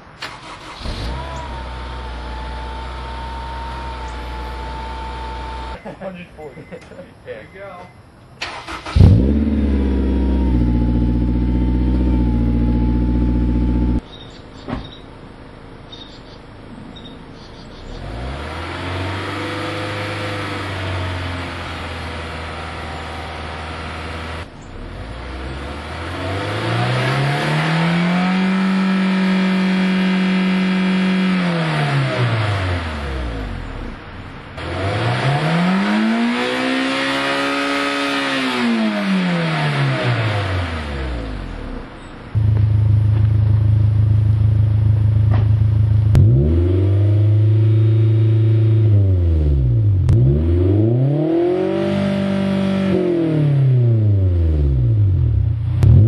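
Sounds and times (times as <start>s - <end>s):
car engine idling and revving: 0.0s - 5.8s, 8.4s - 56.0s.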